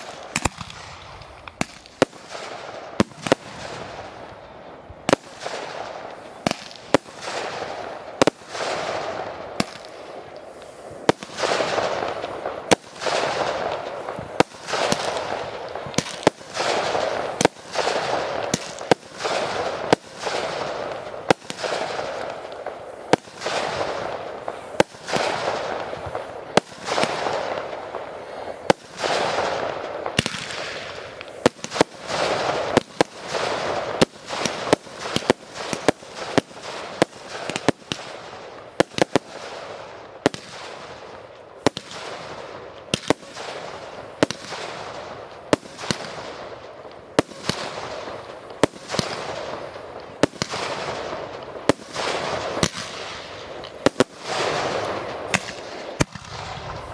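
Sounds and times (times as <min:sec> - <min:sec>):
firework shells bursting: 0:00.0 - 0:03.9, 0:05.1 - 0:56.9
firework hiss: 0:00.0 - 0:56.9.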